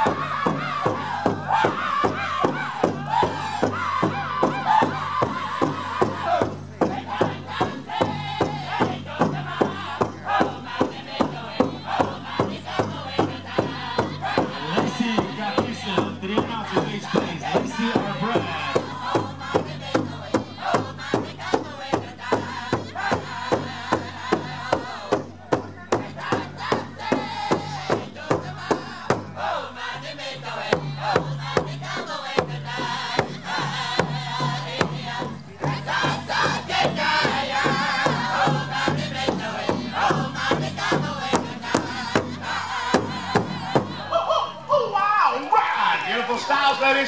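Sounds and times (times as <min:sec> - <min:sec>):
big drum steady beat: 0:00.0 - 0:29.6, 0:30.5 - 0:44.1
men singing in chorus: 0:00.0 - 0:44.6.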